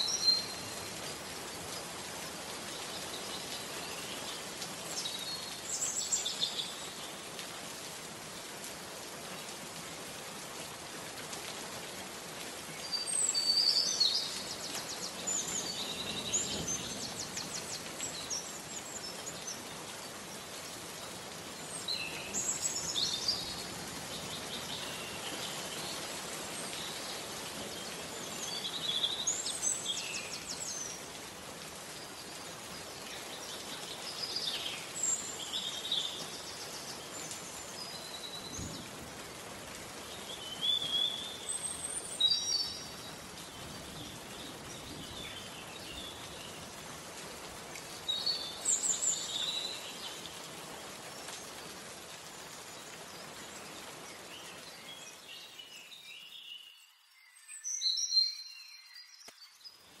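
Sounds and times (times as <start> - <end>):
rain hissing: 0.0 - 55.9.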